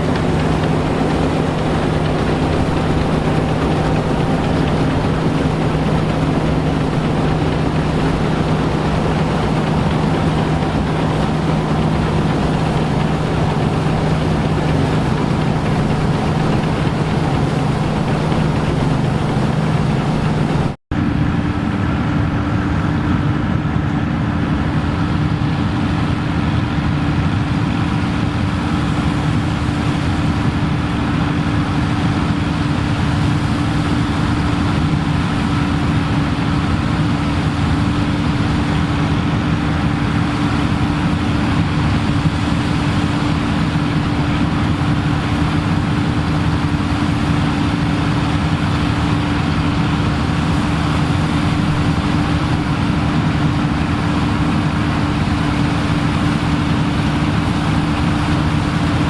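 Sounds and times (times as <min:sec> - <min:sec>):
machinery engine running steadily: 0:00.0 - 0:59.0.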